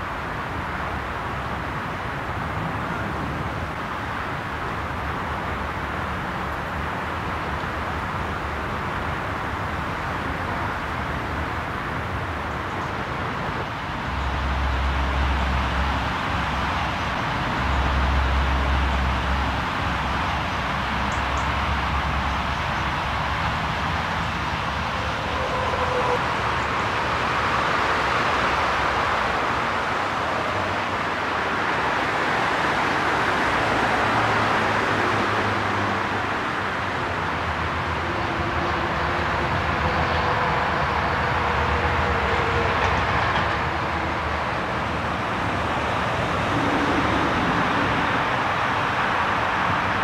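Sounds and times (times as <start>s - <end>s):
motorway traffic: 0.0s - 50.0s.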